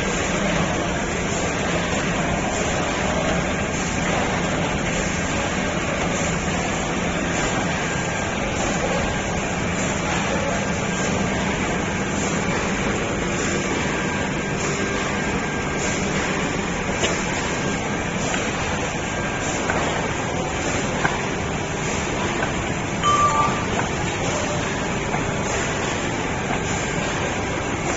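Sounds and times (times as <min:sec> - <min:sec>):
laminating machine humming: 0:00.0 - 0:27.9.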